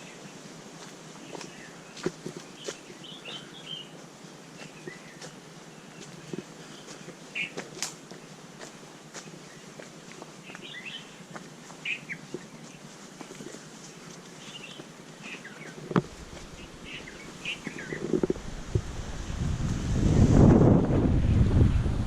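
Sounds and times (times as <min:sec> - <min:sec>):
birds chirping: 0:00.0 - 0:18.4.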